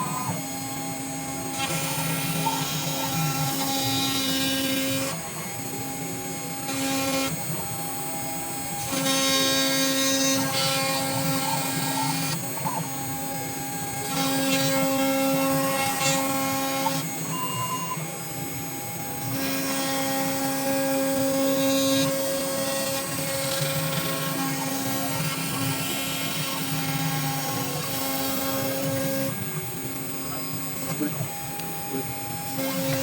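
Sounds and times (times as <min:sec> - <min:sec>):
router spindle whining: 0:00.0 - 0:33.0.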